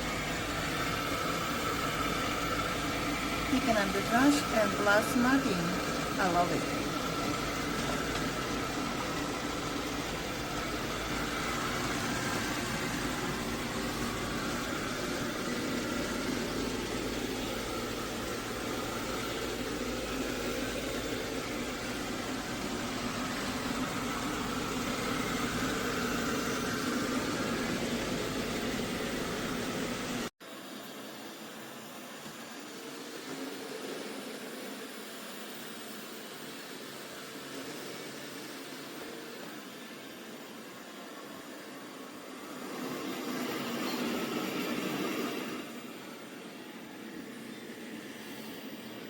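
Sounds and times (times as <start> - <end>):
robot vacuum running: 0.0 - 49.0.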